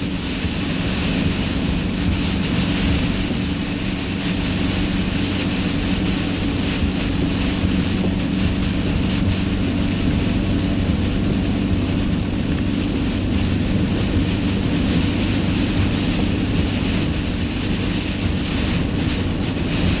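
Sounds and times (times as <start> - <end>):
rain: 0.0 - 20.0
tyres on wet road: 0.0 - 20.0
wind: 0.0 - 20.0.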